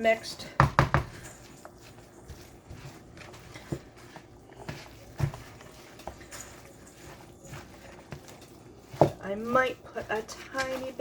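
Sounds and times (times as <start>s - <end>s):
spoon stirring thick mixture: 0.0s - 11.0s.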